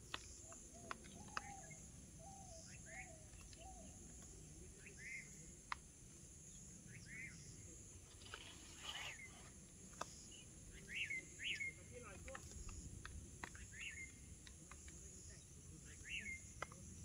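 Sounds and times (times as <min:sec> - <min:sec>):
faint bird chirps: 0:00.1 - 0:05.7, 0:06.4 - 0:12.0, 0:13.5 - 0:17.0.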